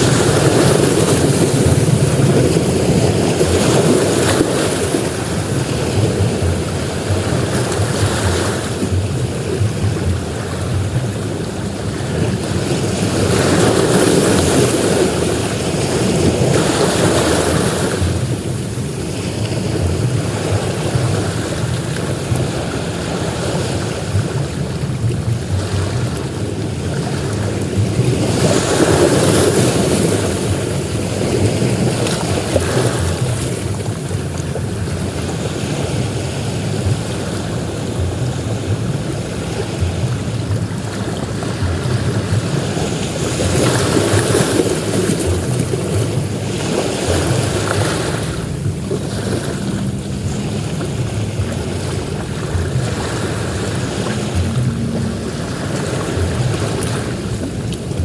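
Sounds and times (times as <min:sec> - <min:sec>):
surf breaking on beach: 0:00.0 - 0:58.0.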